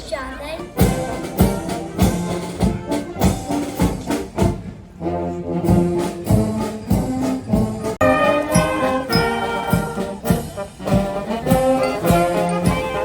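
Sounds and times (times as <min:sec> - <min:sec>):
brass held notes: 0:00.8 - 0:13.0
steady drum beat: 0:00.8 - 0:13.0.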